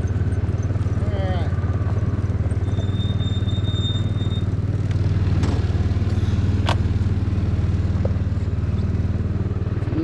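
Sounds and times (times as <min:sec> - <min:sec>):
utility vehicle engine running: 0:00.0 - 0:10.0.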